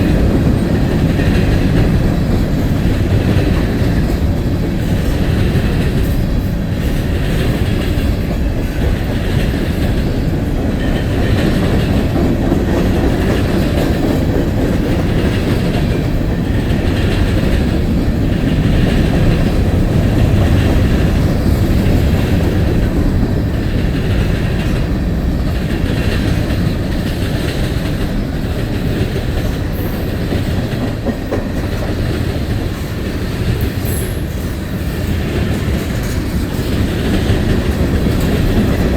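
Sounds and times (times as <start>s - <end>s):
freight train rumble: 0.0s - 38.9s
wheels clacking over rail joints: 0.0s - 38.9s.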